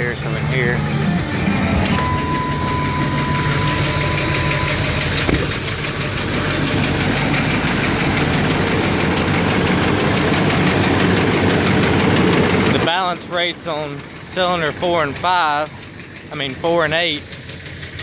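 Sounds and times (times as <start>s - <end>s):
diesel engine idling with ticking knock: 0.0s - 18.0s.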